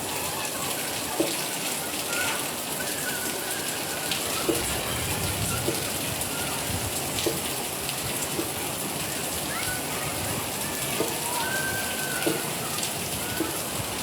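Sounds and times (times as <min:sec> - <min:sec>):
rain pattering on surfaces: 0:00.0 - 0:14.0
close raindrops landing: 0:01.0 - 0:14.0.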